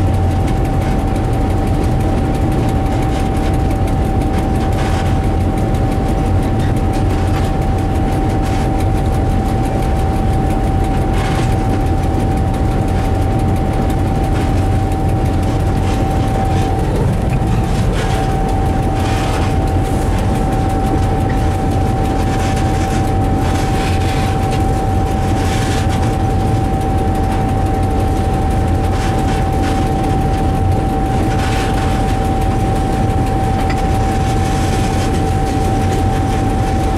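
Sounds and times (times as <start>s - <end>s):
locomotive engine drone: 0.0s - 36.9s
steady high whine: 0.0s - 36.9s.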